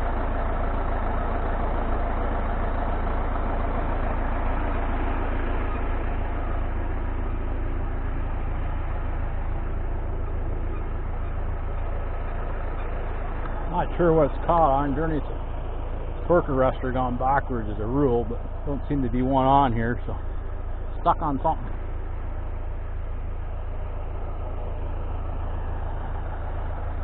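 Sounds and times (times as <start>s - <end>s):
drill rig engine running: 0.0s - 27.0s.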